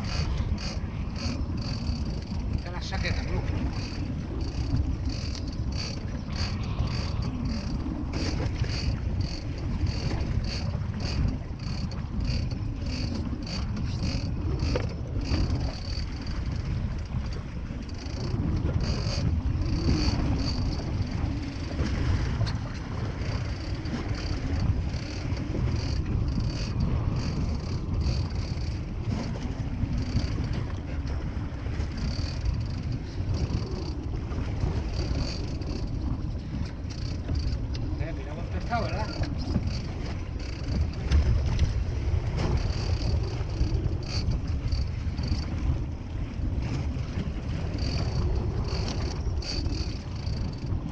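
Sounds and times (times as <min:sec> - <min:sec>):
boat engine rumble: 0:00.0 - 0:50.9
water: 0:00.0 - 0:50.9
wind buffeting microphone: 0:00.0 - 0:50.9.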